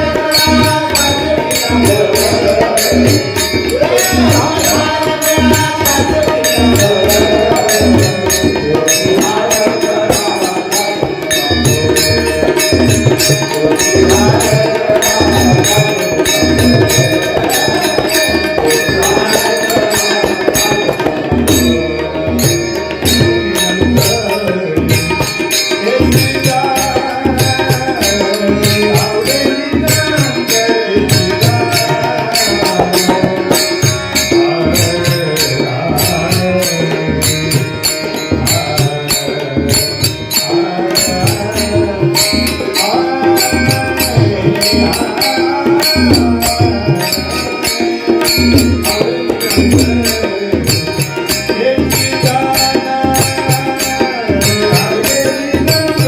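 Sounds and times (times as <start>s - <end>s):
devotional singing: 0.0s - 56.0s
tabla strikes: 0.0s - 56.0s.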